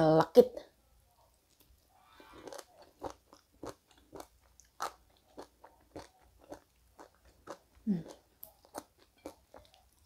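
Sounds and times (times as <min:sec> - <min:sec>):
chewing crunchy food: 0:01.5 - 0:10.0.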